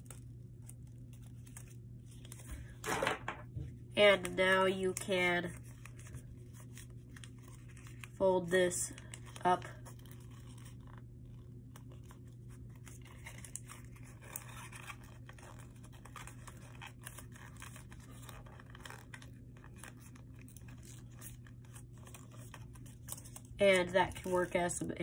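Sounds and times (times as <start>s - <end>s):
paper crinkling and scraping: 0.0s - 25.0s
steady low hum: 0.0s - 25.0s.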